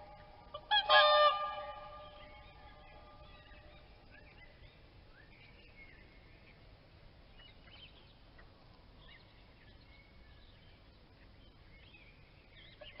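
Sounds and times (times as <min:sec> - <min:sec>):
bird calls and chirps: 0:00.0 - 0:06.7, 0:07.3 - 0:13.0
low steady rumble: 0:00.0 - 0:13.0.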